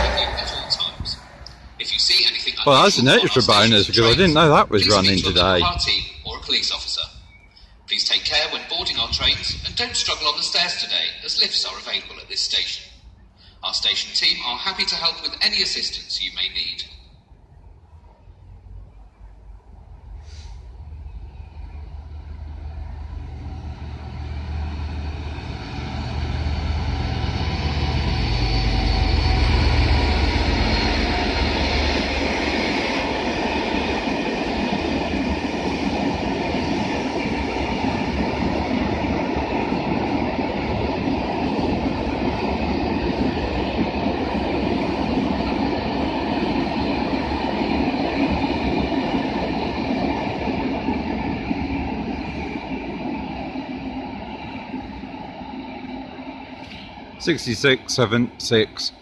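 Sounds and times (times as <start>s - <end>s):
diesel locomotive engine throb: 0.0s - 6.0s, 17.3s - 58.8s
freight wagons rumbling past: 0.0s - 7.1s, 18.2s - 58.9s.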